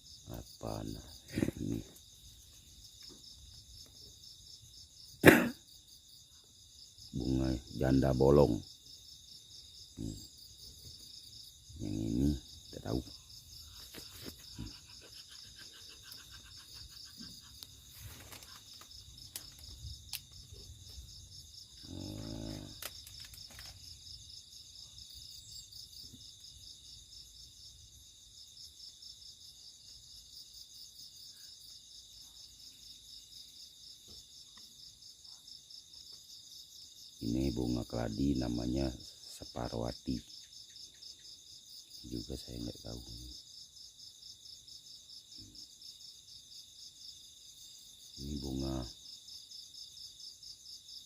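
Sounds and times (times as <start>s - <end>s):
insect chorus chirring: 0.0s - 51.0s.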